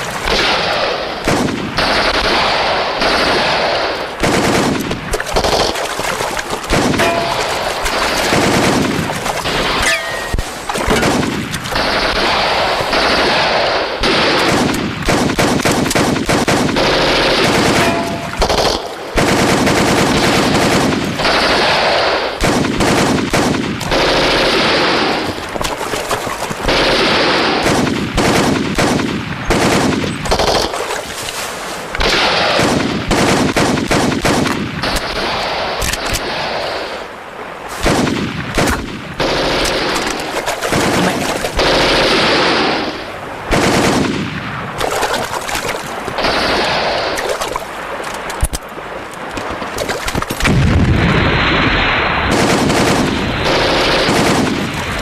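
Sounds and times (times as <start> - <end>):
automatic rifle gunfire bursts: 0.0 - 25.3, 26.6 - 30.9, 32.0 - 36.6, 37.8 - 45.1, 52.3 - 55.0.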